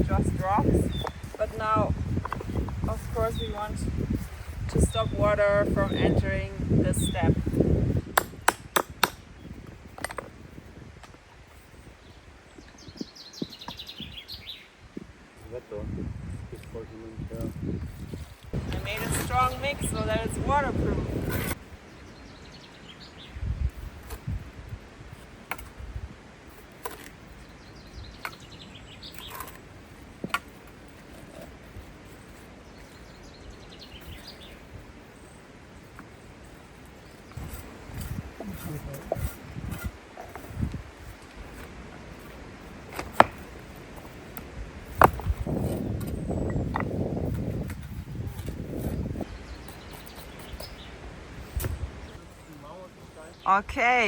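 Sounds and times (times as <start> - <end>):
small birds chirping: 0.0 - 10.6, 11.5 - 24.3, 26.5 - 54.0
songbird singing: 0.0 - 24.5, 25.1 - 54.0
outdoor background noise: 0.0 - 54.0.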